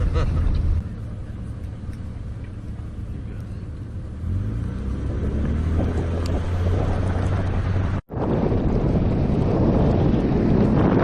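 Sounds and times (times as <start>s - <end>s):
engine climbing a hill: 0.0s - 11.0s.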